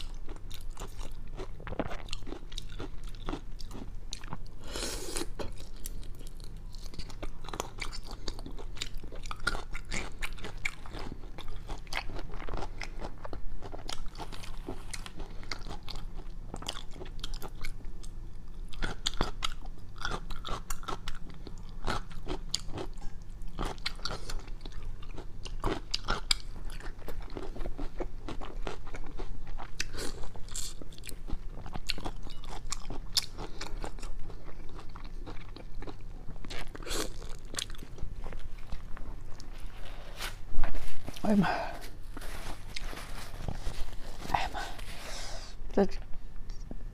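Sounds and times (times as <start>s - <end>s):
crunchy chewing: 0.0s - 40.0s.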